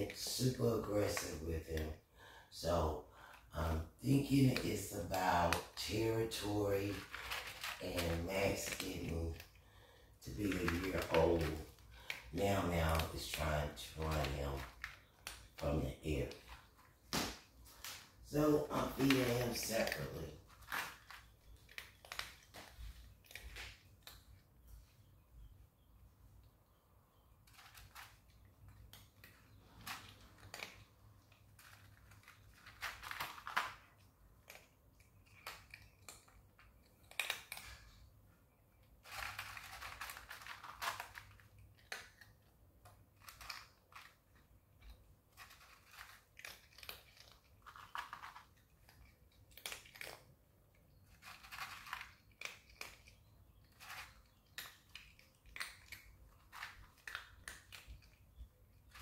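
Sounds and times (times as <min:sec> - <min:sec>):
cat crunching dry kibble: 0:02.6 - 0:24.7, 0:27.3 - 0:59.0.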